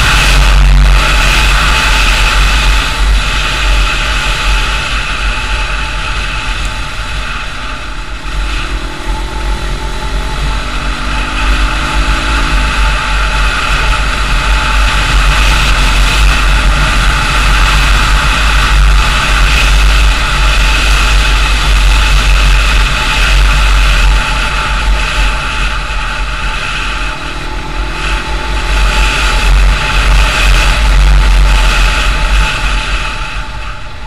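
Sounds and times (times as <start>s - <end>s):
vehicle driving on paved road: 0.0s - 34.0s
wind rumble on microphone: 0.0s - 34.0s.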